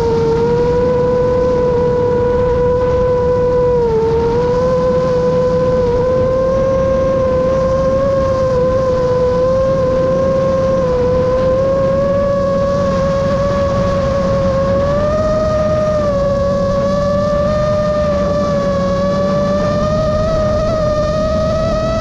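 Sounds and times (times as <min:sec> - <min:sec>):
low rushing noise: 0:00.0 - 0:22.0
quadcopter motors whining: 0:00.0 - 0:22.0.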